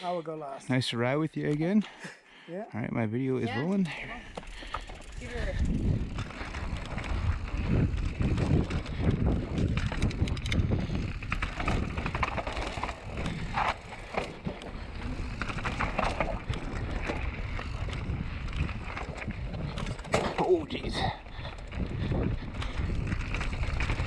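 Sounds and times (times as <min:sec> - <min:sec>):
bike chain and frame rattling: 0:03.4 - 0:24.0
bike tyres rumbling over dirt: 0:04.2 - 0:24.0
wind buffeting microphone: 0:04.2 - 0:24.0.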